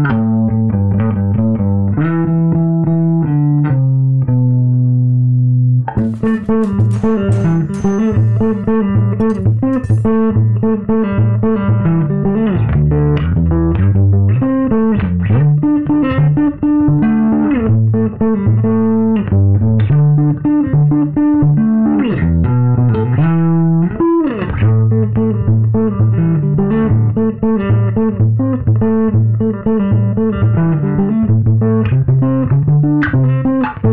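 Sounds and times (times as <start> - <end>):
electric bass riff: 0.0 - 33.9.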